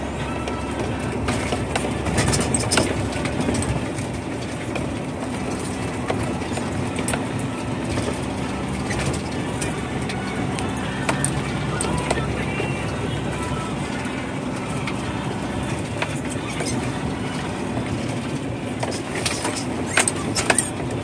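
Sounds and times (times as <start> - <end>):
cab and trailer rattling: 0.0 - 21.0
truck engine and road rumble: 0.0 - 21.0.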